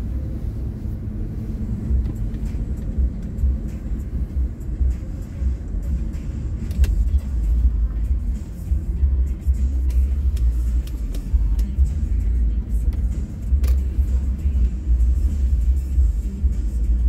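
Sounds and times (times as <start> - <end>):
engine rumble and road noise: 0.0 - 17.0.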